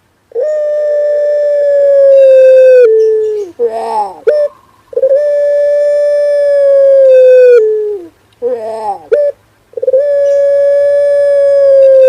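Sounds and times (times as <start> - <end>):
dove cooing: 0.3 - 12.0.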